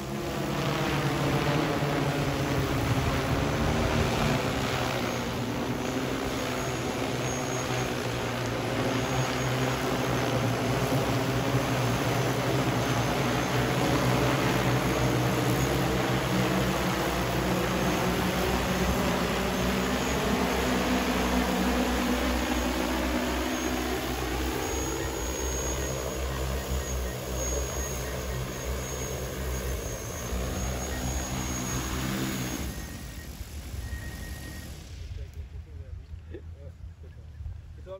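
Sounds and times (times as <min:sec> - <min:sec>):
drone propellers buzzing: 0:00.0 - 0:36.2.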